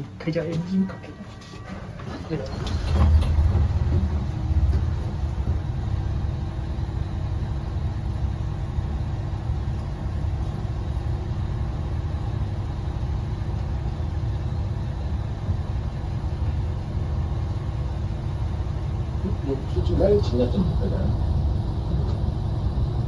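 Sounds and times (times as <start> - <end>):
diesel railcar engine idling: 0.0 - 23.0.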